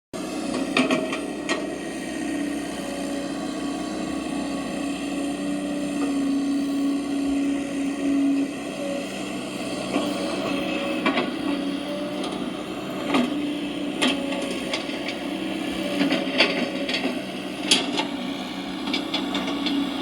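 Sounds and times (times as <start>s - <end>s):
small electric motors whining: 0.2s - 20.0s.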